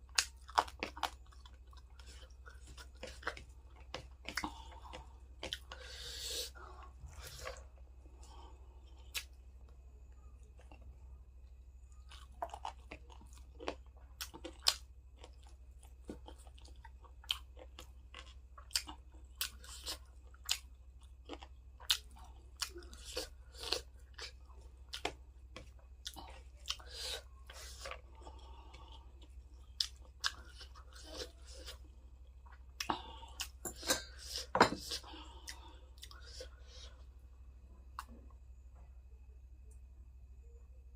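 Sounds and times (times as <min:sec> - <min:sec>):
chewing crunchy food: 0:00.0 - 0:09.4, 0:11.8 - 0:37.0.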